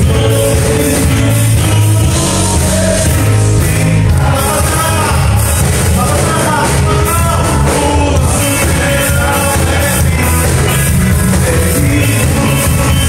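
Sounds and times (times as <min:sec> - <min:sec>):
live gospel band with singing: 0:00.0 - 0:13.0.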